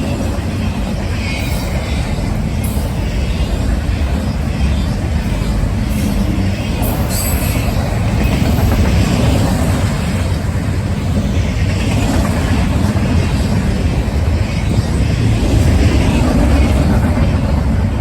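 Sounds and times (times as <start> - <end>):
wheels clattering and squealing: 0.0 - 17.2
train wheels rumbling on rails: 0.0 - 18.0.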